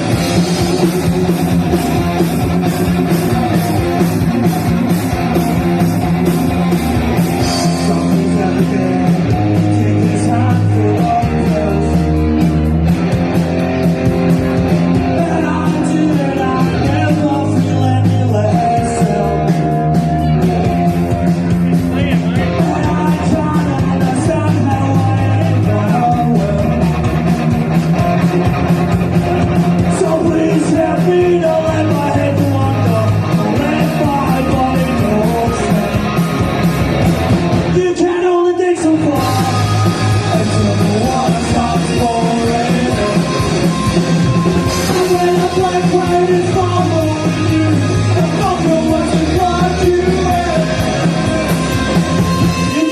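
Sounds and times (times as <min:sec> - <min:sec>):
bass guitar: 0:00.0 - 0:52.9
drums: 0:00.0 - 0:52.9
electric guitar: 0:00.0 - 0:52.9.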